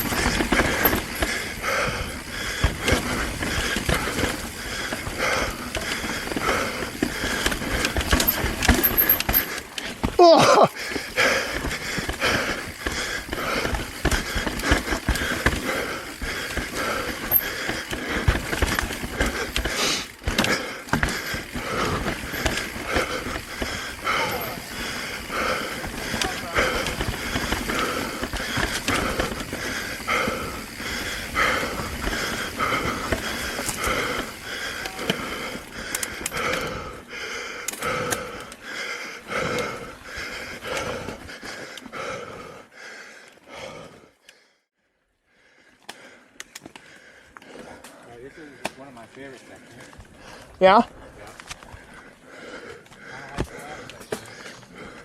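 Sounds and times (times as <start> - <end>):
mountain bike rattling over rocks: 0.0 - 42.1, 46.5 - 55.0
person breathing hard: 0.0 - 50.6, 51.6 - 55.0.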